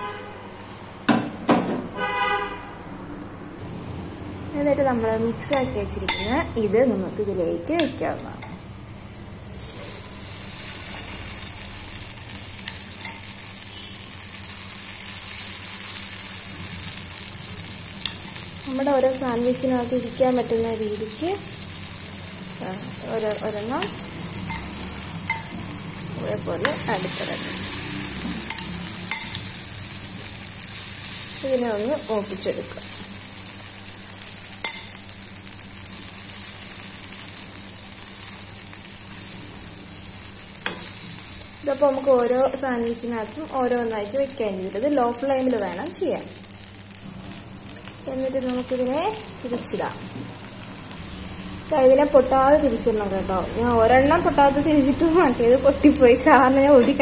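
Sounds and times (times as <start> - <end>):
egg mixture sizzling in a frying pan: 7.3 - 57.0.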